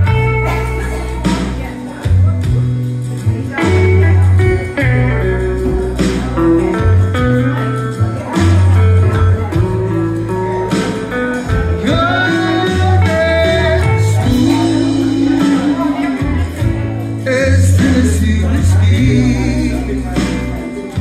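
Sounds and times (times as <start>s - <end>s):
backing track with guitar and bass: 0.0s - 21.0s
man singing country song: 3.1s - 21.0s.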